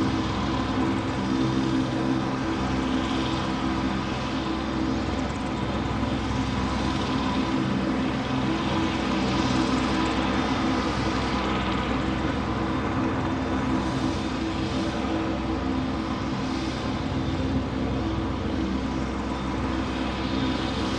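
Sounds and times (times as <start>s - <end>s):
steady machine drone: 0.0s - 20.9s.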